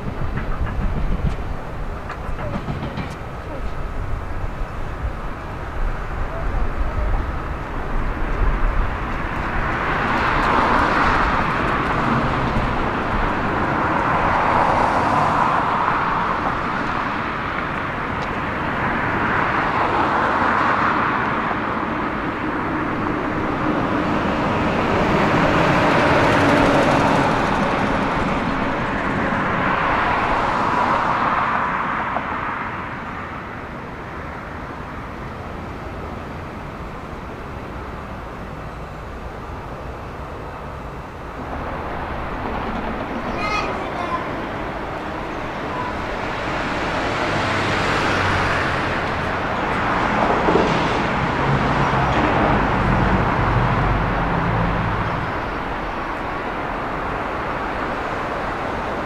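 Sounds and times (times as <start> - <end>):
moving vehicle running noise: 0.0 - 59.0.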